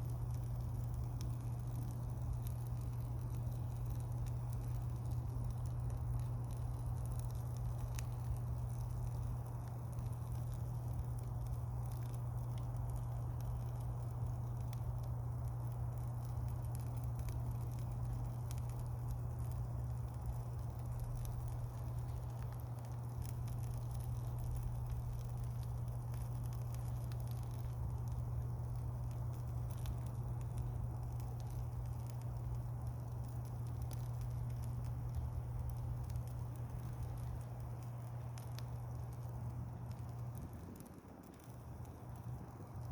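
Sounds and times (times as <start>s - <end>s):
campfire crackling and popping: 0.0s - 42.9s
steady low hum: 0.0s - 42.9s.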